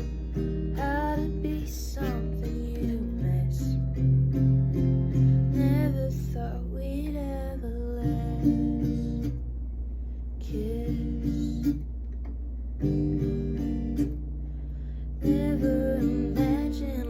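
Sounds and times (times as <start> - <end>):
acoustic guitar chords: 0.0 - 17.0
steady low hum: 0.0 - 17.0.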